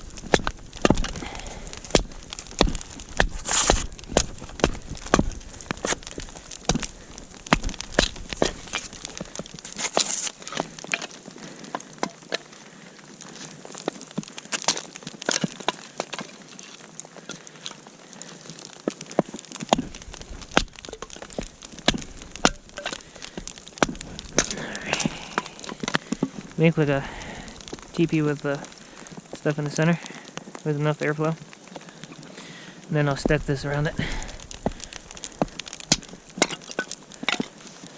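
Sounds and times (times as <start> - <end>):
sticks cracking and snapping: 0.0 - 30.7, 31.3 - 37.9.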